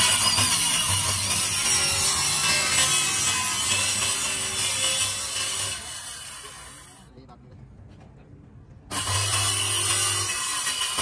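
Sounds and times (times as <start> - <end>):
harsh abrasive workshop tool: 0.0 - 7.1, 8.9 - 11.0.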